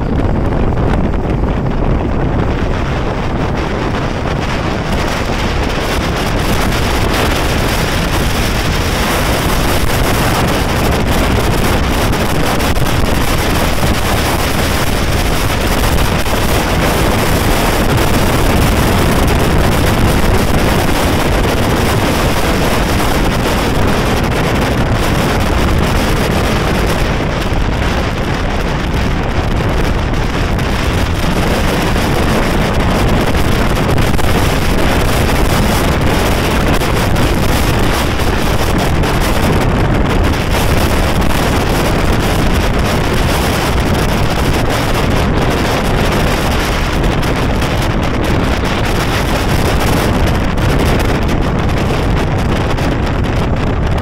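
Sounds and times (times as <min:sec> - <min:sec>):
motorcycles running: 0:00.0 - 0:54.0
wind noise on microphone: 0:00.0 - 0:54.0.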